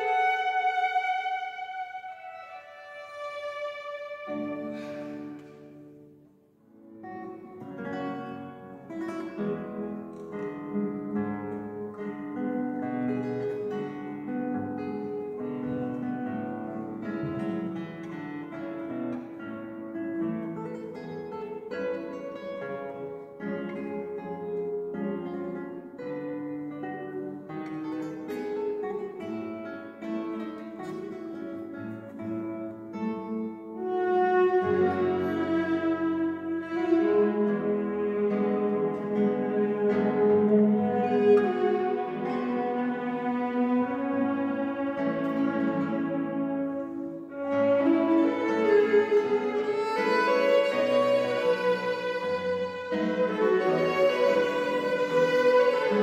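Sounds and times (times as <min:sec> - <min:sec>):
classical guitar melody: 0:00.0 - 0:56.0.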